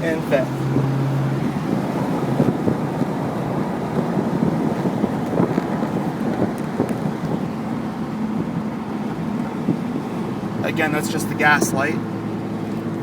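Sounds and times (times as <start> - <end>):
car engine cruising: 0.0 - 13.0
wind and road noise: 0.0 - 13.0.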